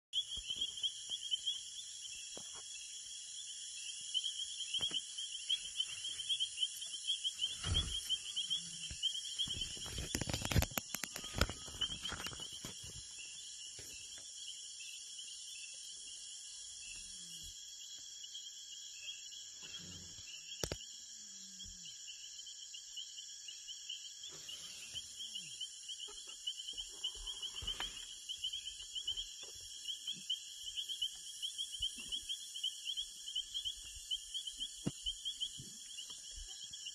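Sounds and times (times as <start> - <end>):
insect chorus trilling: 0.2 - 36.9.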